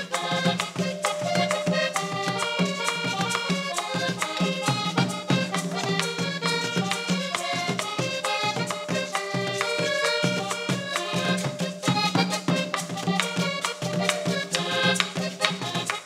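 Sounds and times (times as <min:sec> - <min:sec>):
cumbia on button accordion: 0:00.0 - 0:16.0
drums: 0:00.0 - 0:16.0
shaken hand percussion: 0:00.0 - 0:16.0.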